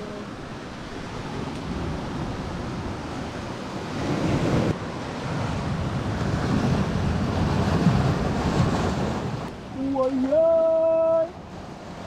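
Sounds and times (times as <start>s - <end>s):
surf breaking on rocks: 0.0s - 12.0s
wind buffeting microphone: 0.0s - 12.0s.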